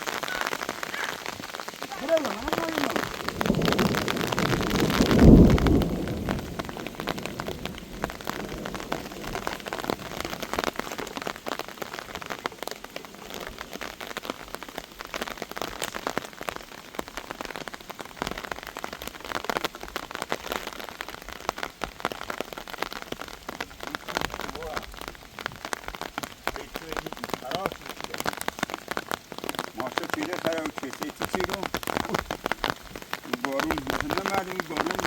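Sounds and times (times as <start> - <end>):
heavy rain falling: 0.0 - 35.0
raindrops ticking on hard surfaces: 0.0 - 35.0.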